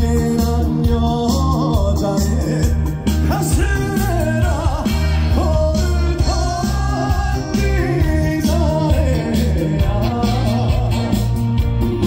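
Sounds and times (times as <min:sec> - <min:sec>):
man singing with vibrato: 0:00.0 - 0:11.6
live band with heavy bass: 0:00.0 - 0:12.0.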